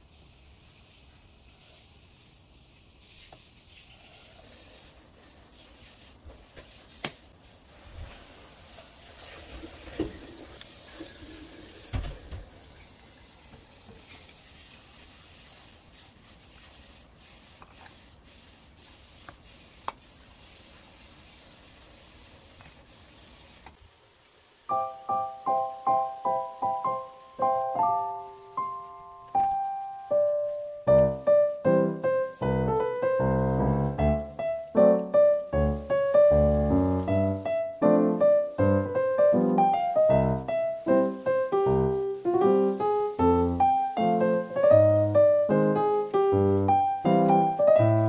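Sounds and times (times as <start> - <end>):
low steady hiss: 0.0 - 48.0.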